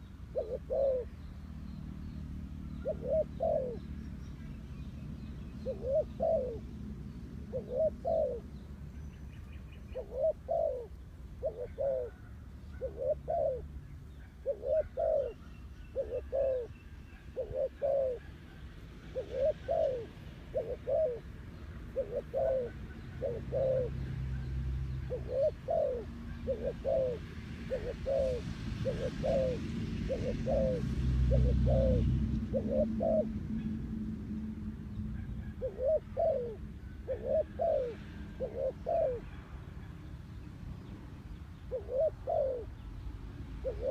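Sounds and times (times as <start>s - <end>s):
dove cooing: 0.0s - 1.3s, 2.6s - 4.0s, 5.5s - 8.7s, 9.7s - 33.9s, 35.2s - 39.4s, 41.6s - 42.8s, 43.5s - 43.9s.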